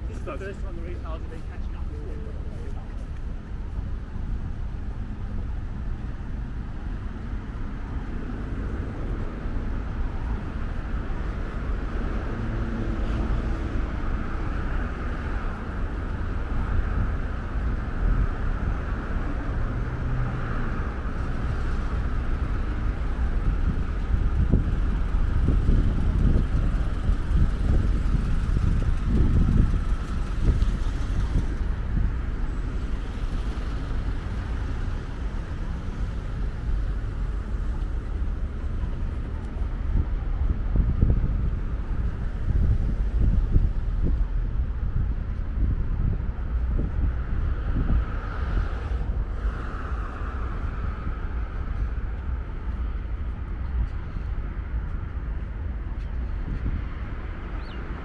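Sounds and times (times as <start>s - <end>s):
road traffic passing: 0.0s - 58.0s
wind rumbling on microphone: 0.0s - 58.0s.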